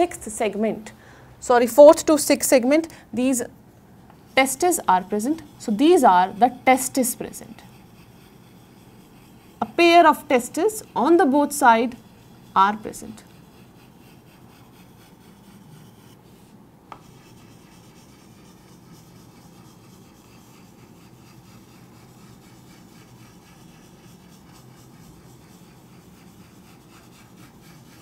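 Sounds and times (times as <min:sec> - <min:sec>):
chalk rubbing on chalkboard: 0:04.2 - 0:28.0.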